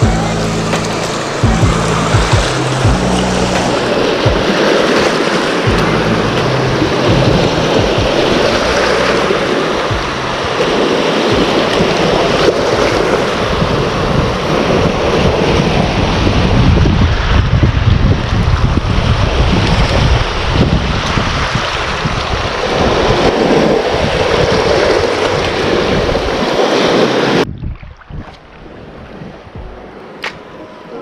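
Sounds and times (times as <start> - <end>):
wind buffeting microphone: 0.0 - 30.6
sea waves washing: 0.0 - 31.0.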